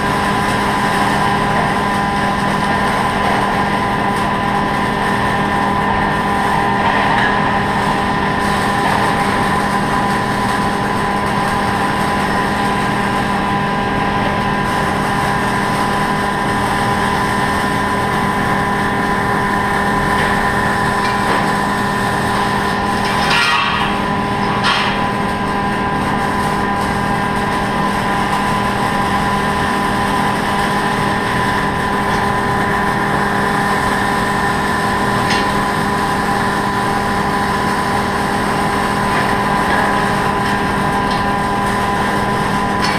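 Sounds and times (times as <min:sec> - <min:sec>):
welding hiss: 0:00.0 - 0:42.9
welding machine hum: 0:00.0 - 0:42.9.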